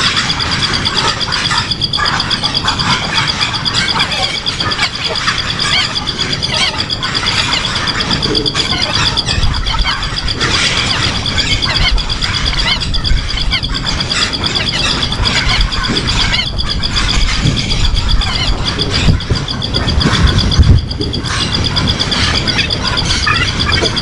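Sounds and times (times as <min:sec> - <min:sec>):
birds chirping: 0:00.0 - 0:24.0
rapidly pulsing insect trill: 0:00.0 - 0:24.0.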